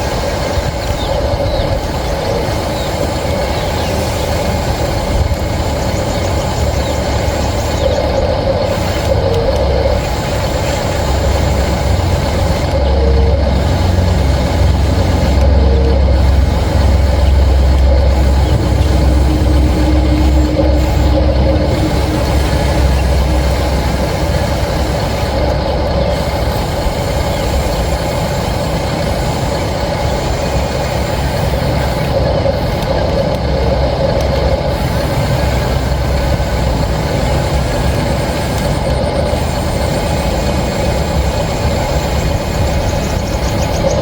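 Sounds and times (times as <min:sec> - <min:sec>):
toy vehicle engine drone: 0:00.0 - 0:44.0.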